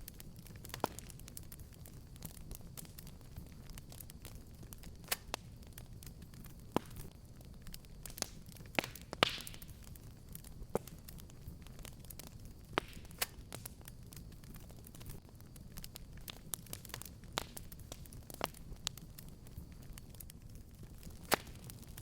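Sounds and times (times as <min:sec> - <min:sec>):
burning wood crackling and popping: 0:00.0 - 0:22.0
fire low rumble: 0:00.0 - 0:22.0.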